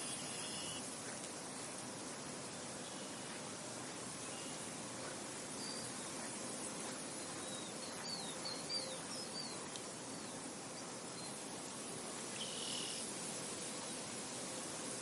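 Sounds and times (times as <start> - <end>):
insects: 0.0 - 15.0
wind hiss: 0.0 - 15.0.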